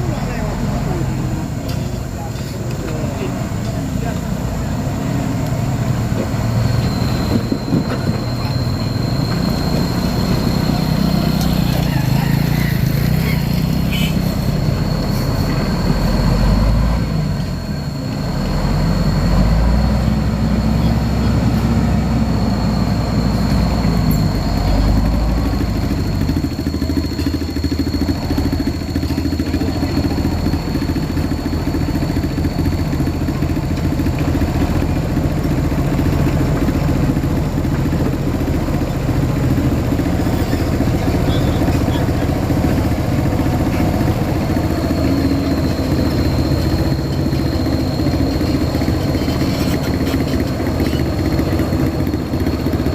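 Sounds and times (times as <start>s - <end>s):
diesel engines rumbling: 0.0s - 52.9s
thin high whine: 2.5s - 35.4s, 36.6s - 52.9s.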